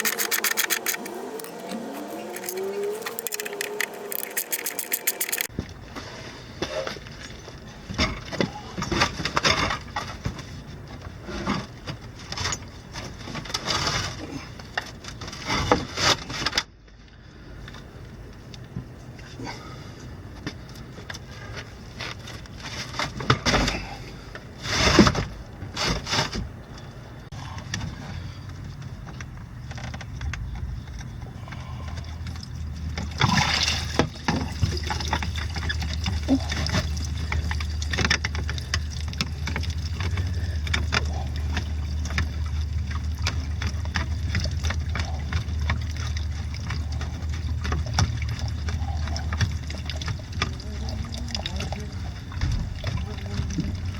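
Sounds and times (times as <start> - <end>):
hot tub pump humming: 0.0 - 16.3, 26.5 - 53.9
water churning and splashing: 0.0 - 16.6, 17.3 - 53.9.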